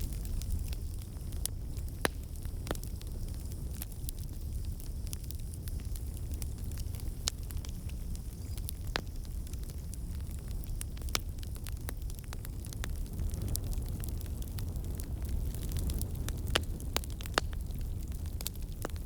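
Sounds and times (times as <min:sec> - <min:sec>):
fireplace fire crackling: 0:00.0 - 0:19.0.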